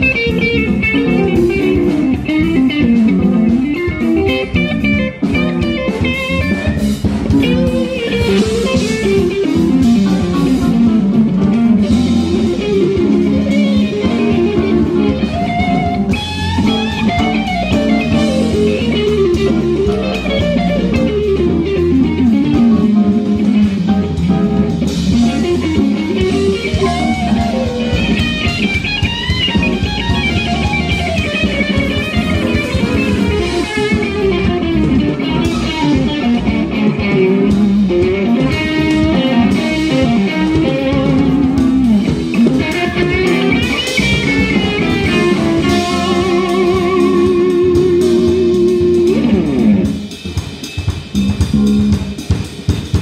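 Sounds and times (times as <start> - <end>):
bass guitar: 0.0 - 53.0
drums: 0.0 - 53.0
electric guitar lead line: 0.0 - 53.0.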